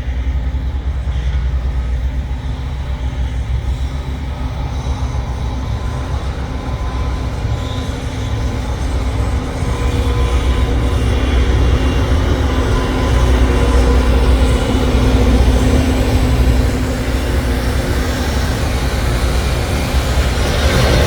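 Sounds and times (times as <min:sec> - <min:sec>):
rail grinder train diesel rumble: 0:00.0 - 0:21.0.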